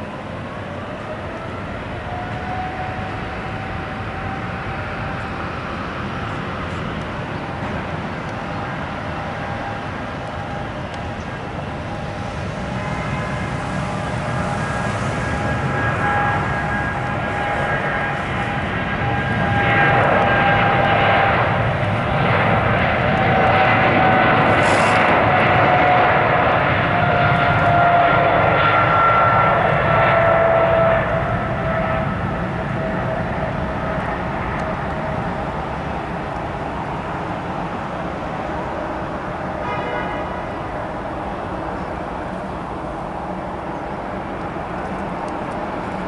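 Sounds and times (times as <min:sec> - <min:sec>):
jet engines roaring with whine: 0:00.0 - 0:46.0.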